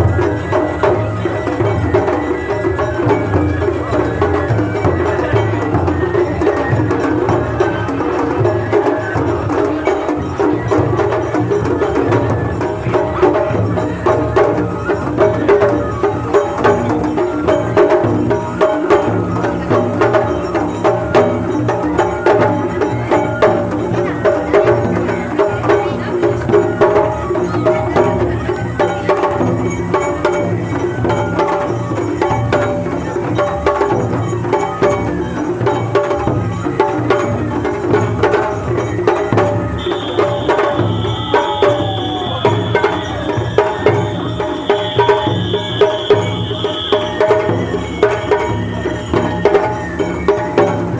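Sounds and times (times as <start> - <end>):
drums and hand percussion: 0.0 - 50.9
held melodic notes: 0.0 - 50.9.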